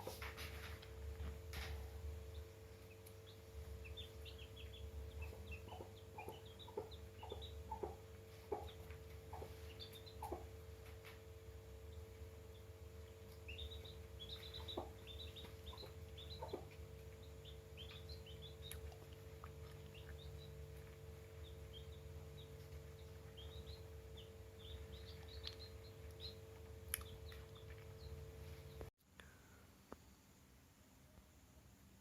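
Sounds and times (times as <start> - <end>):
chicks peeping: 0.0 - 28.9
steady low hum: 0.0 - 32.0.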